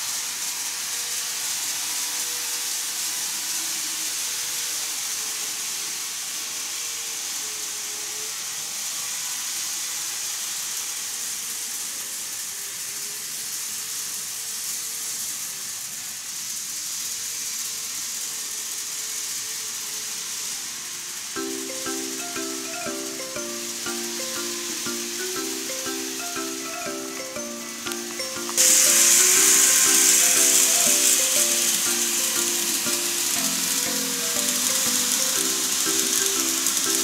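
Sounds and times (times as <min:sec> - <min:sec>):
model trains running: 0:00.0 - 0:37.0.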